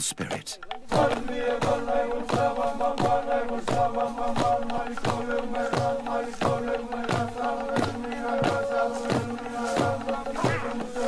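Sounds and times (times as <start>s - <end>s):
chorus chanting: 0.8s - 11.0s.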